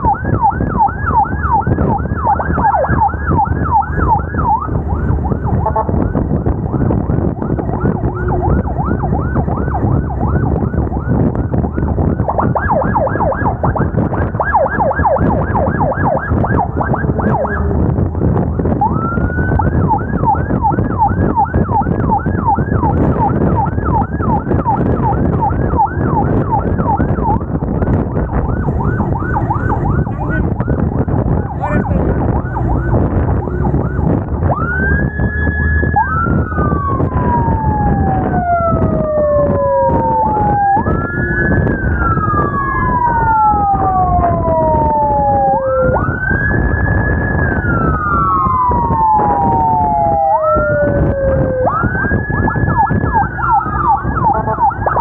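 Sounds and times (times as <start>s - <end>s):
siren yelping: 0.0s - 55.0s
traffic rumble: 0.0s - 55.0s.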